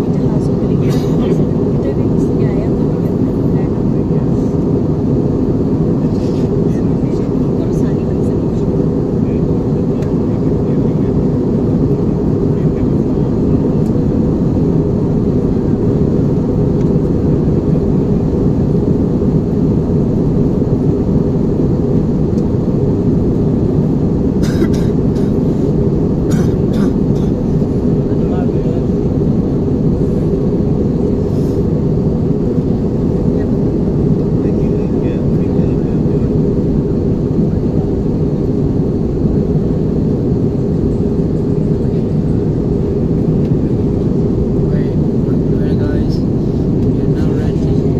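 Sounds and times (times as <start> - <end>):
airplane cabin engine roar: 0.0 - 47.9.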